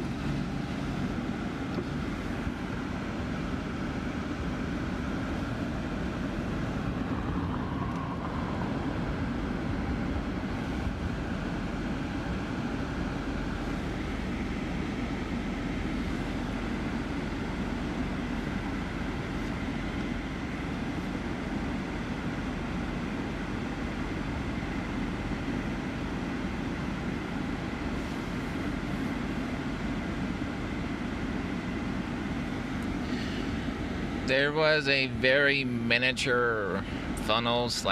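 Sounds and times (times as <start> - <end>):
car engine: 0.0 - 37.9
low road rumble: 0.0 - 37.9.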